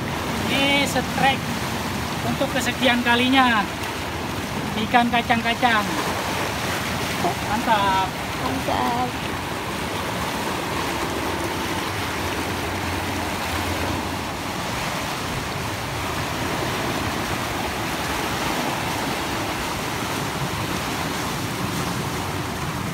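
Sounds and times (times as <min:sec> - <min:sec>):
sea waves washing over rocks: 0:00.0 - 0:22.9.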